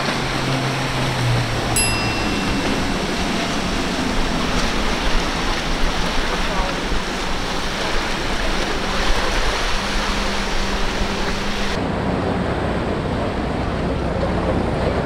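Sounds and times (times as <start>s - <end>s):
outboard motors humming: 0.0s - 15.0s
water spray and wake rushing: 0.0s - 15.0s.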